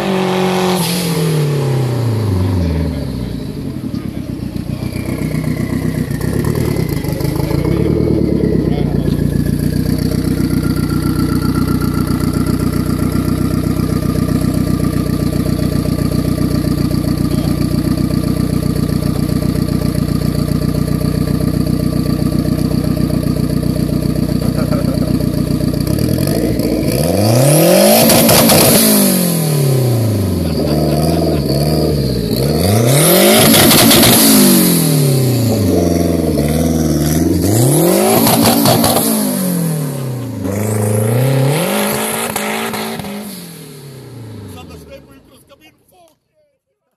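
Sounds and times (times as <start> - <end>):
car engine idling and revving: 0.0 - 45.7.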